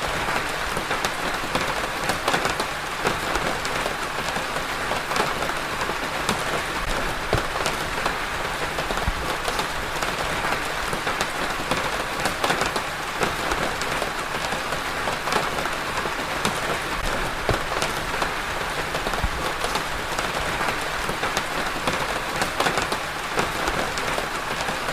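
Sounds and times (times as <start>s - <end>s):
rain on a hard surface: 0.0s - 24.9s.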